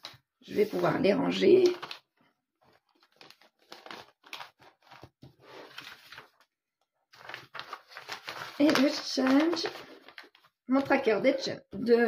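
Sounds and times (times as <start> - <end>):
paper and plastic sleeve rustling: 0.0 - 11.2.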